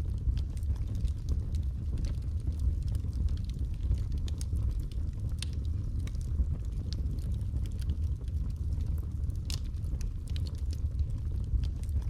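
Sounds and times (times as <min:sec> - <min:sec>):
logs crackling and popping: 0:00.0 - 0:12.0
low rumble of flames: 0:00.0 - 0:12.0.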